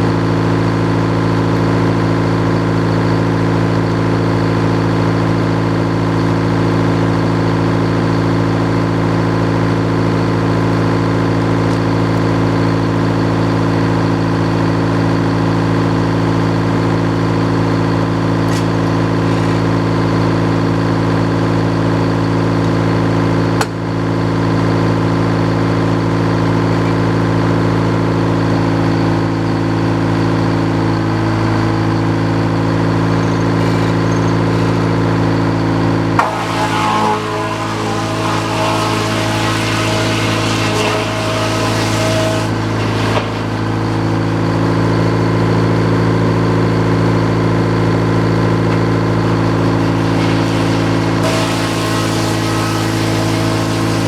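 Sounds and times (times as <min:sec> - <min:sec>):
sawmill engine running: 0:00.0 - 0:23.2, 0:27.6 - 0:54.0.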